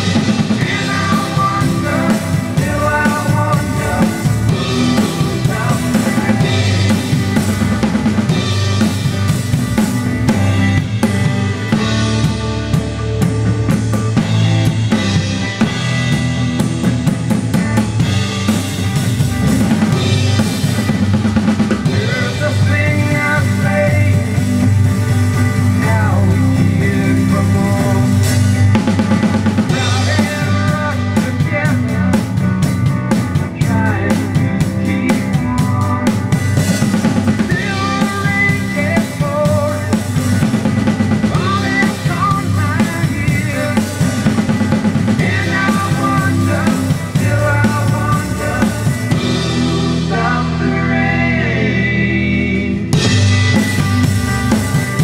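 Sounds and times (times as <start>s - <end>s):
drum kit rock beat: 0.0s - 55.0s
recorded song with guitar and voice: 0.0s - 55.0s.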